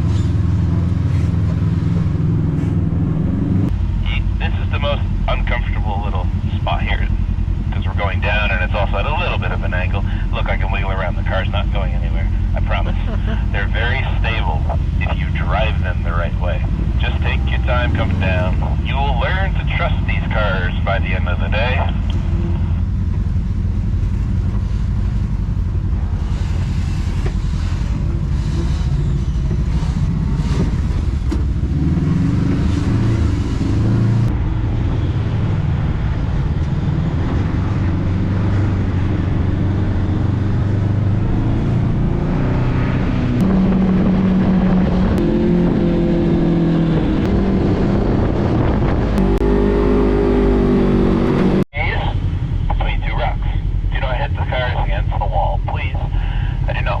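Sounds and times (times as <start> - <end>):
engine revving at low speed: 0.0 - 52.8.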